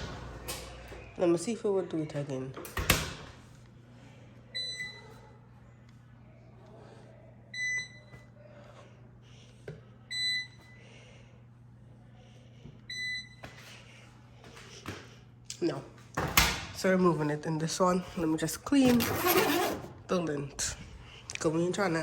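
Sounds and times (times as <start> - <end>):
low hum of machines: 0.0 - 22.0.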